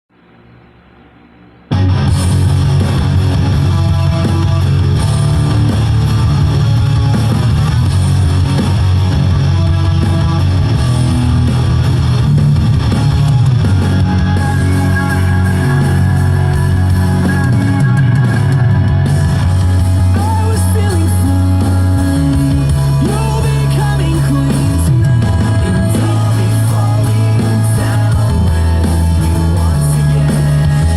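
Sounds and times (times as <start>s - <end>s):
loud rock music: 1.7s - 30.9s.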